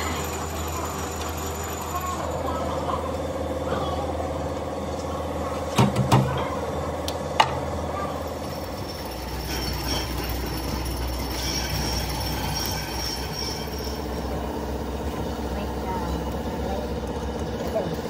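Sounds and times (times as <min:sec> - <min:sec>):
workshop machine hum: 0:00.0 - 0:18.0.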